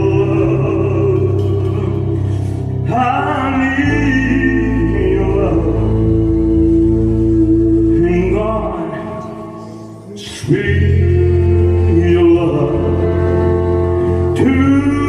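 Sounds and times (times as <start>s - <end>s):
ballad with long held note: 0.0s - 15.0s.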